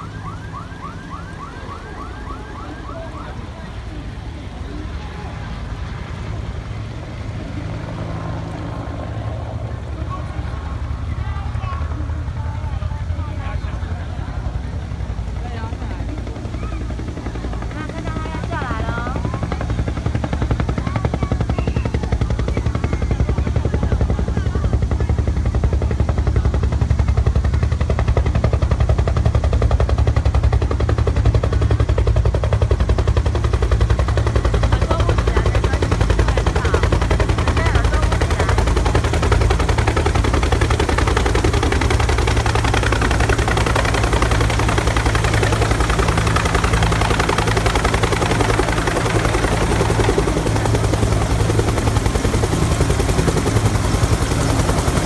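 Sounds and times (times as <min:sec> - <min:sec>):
helicopter rotor chopping: 0:00.0 - 0:55.0.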